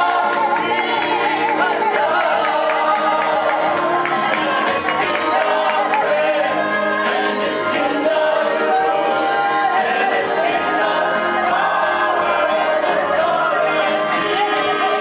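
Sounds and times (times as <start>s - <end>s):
men singing gospel through loudspeaker: 0.0s - 15.0s.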